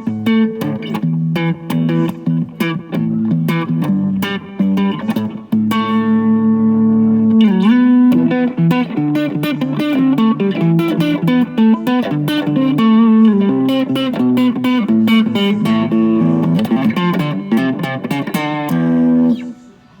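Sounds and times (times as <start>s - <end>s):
slap electric guitar: 0.0s - 19.5s.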